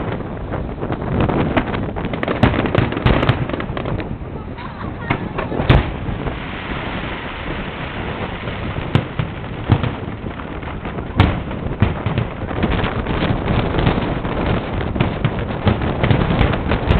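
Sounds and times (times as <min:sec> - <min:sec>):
firework booms: 0:00.0 - 0:16.9
fireworks crackle: 0:00.0 - 0:16.9.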